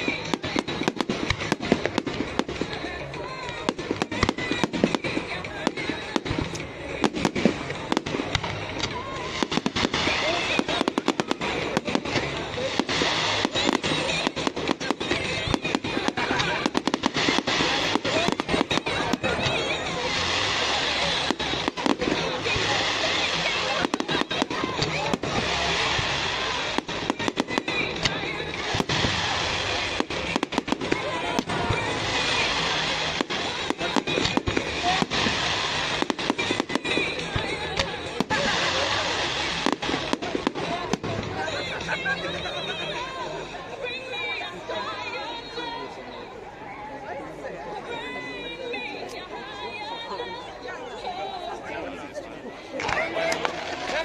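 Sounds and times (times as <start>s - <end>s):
fireworks bangs and crackles: 0.0s - 46.0s, 52.6s - 54.0s
music playing: 0.0s - 54.0s.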